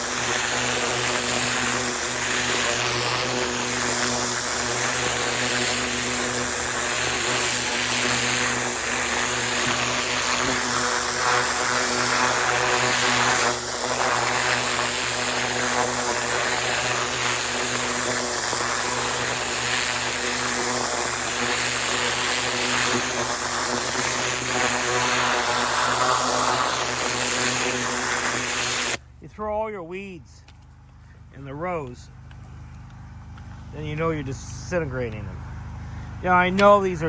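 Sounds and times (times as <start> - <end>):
pressure washer running: 0.0 - 29.2, 30.4 - 37.0.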